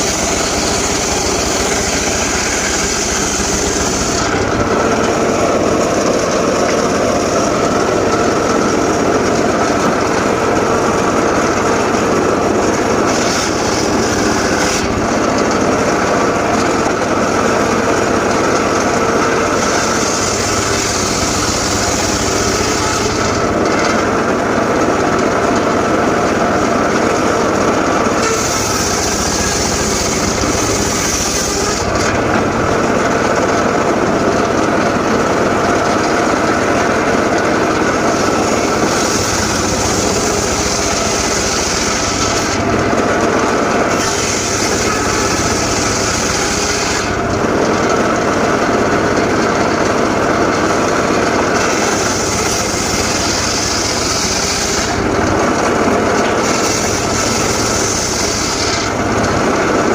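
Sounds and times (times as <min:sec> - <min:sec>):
circular saw engine running: 0:00.0 - 0:59.9
saw blade cutting wood: 0:00.0 - 0:59.9.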